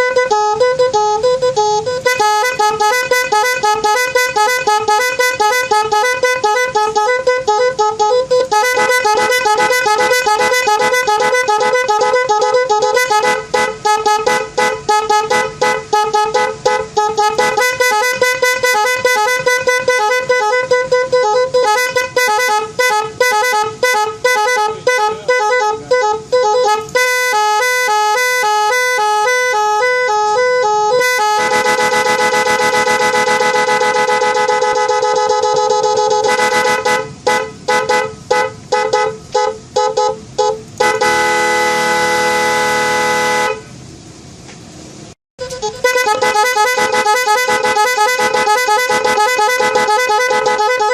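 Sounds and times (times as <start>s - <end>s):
multi-tone electric horn: 0.0s - 43.8s, 45.4s - 50.9s.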